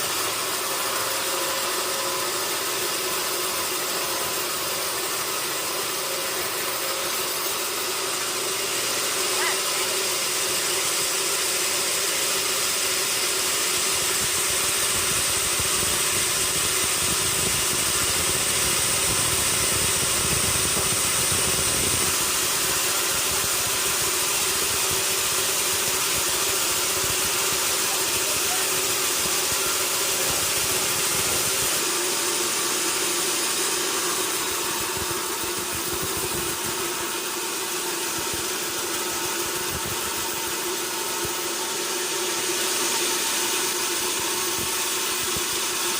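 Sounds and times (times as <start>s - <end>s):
sawmill machinery hum: 0.0s - 45.9s.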